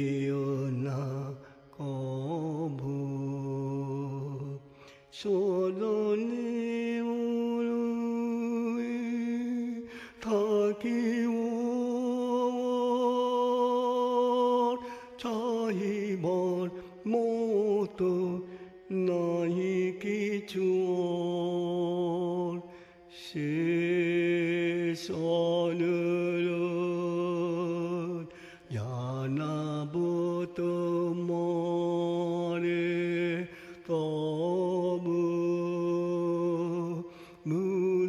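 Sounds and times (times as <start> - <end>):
man singing devotional song: 0.0 - 38.0.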